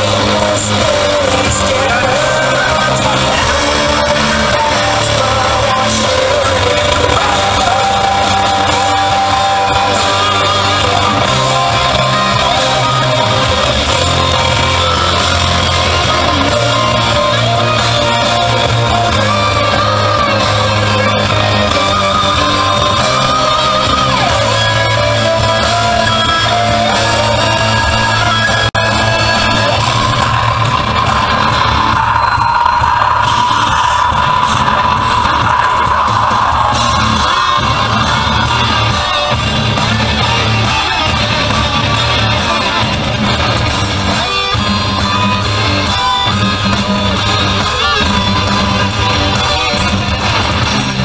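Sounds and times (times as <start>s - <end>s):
loud rock music with guitar: 0.0s - 51.0s.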